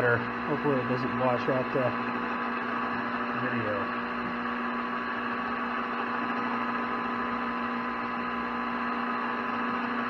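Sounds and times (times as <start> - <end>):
metal lathe humming: 0.0 - 10.0.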